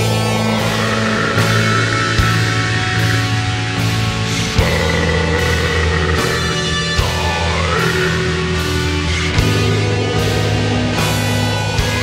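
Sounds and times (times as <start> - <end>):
slow doom metal guitar and bass: 0.0 - 12.0.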